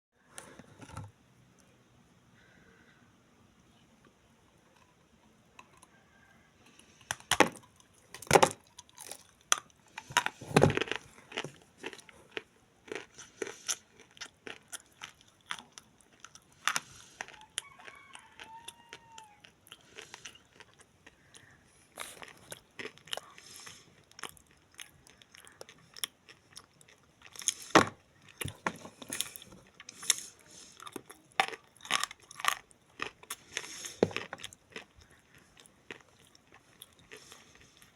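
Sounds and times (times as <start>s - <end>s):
clay being chewed with crunches: 6.7s - 37.9s.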